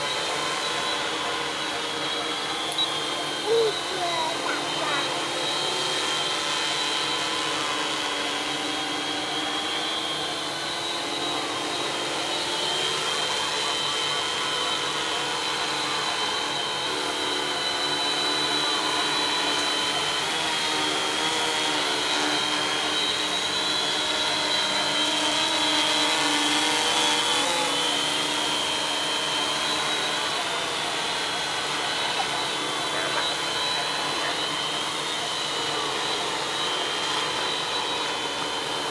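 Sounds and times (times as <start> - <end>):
drones whirring buzz: 0.0 - 38.9.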